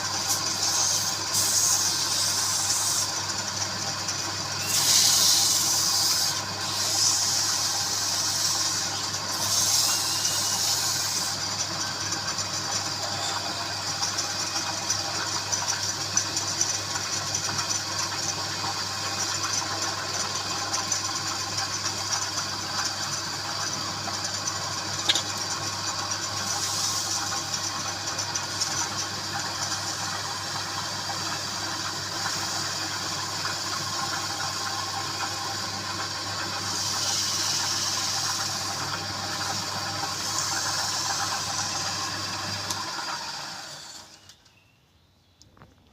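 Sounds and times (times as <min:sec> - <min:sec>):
tool cutting spinning wood hiss: 0:00.0 - 0:44.3
wood lathe motor hum: 0:00.0 - 0:44.3.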